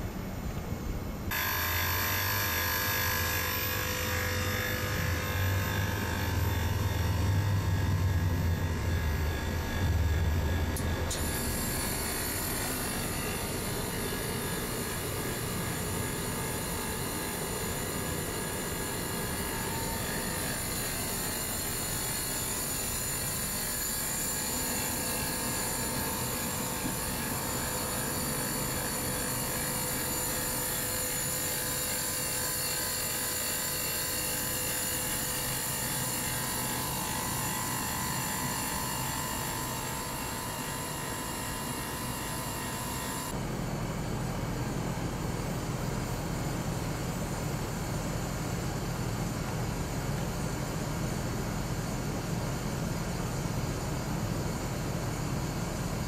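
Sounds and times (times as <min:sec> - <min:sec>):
high-pitched machine whines: 0:00.0 - 0:56.0
machinery drone: 0:00.0 - 0:56.0.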